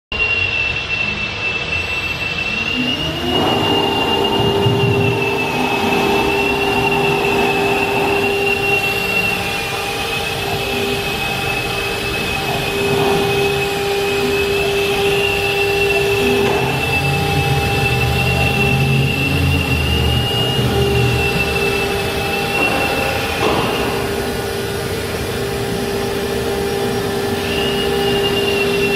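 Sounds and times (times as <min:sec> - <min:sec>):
broad machine noise: 0:00.1 - 0:28.9
constant high-pitched tone: 0:00.1 - 0:28.9
router spindle whine: 0:00.1 - 0:28.9.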